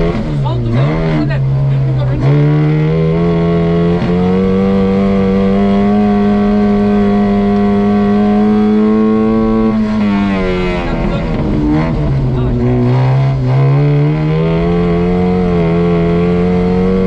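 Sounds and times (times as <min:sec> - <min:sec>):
engine at high revs: 0:00.0 - 0:17.0.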